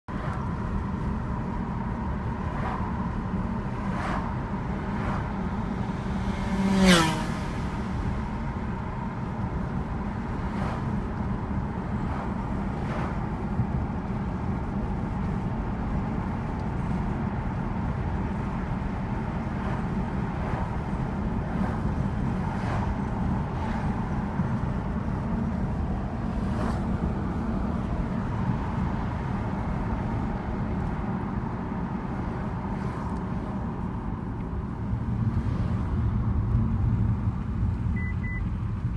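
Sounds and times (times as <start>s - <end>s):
car engine and tyre noise: 0.1s - 38.9s.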